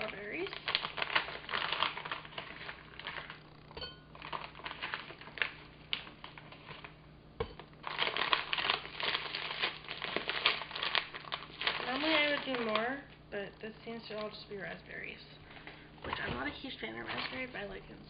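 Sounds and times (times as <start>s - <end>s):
plastic bag crinkling: 0.0s - 7.0s, 7.8s - 13.2s, 14.0s - 17.9s.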